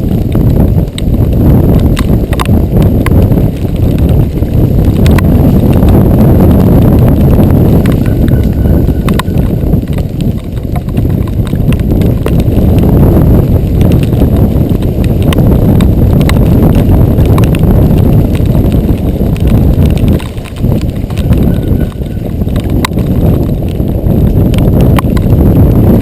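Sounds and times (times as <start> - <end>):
bike rattling clicks and knocks: 0.0 - 26.0
wind rumble on microphone: 0.0 - 26.0.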